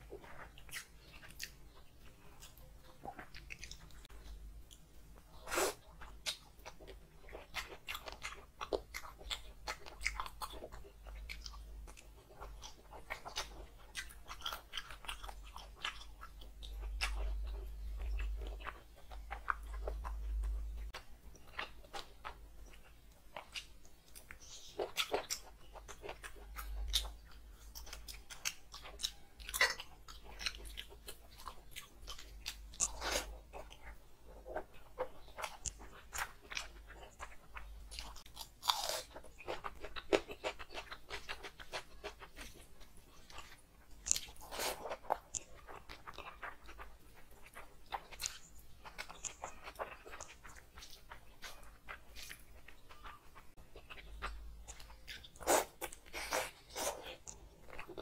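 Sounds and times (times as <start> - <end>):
person chewing and biting food: 0.0 - 58.0.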